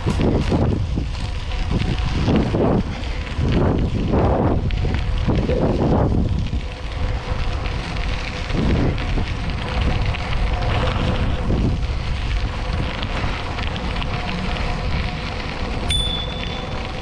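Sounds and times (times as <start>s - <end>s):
tyres crackling on trail: 0.0s - 17.0s
wind rushing over microphone: 0.0s - 17.0s.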